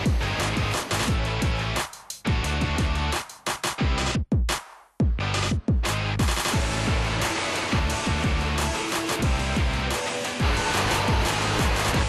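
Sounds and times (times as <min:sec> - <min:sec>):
music with deep kick drums: 0:00.0 - 0:07.2, 0:07.8 - 0:12.0.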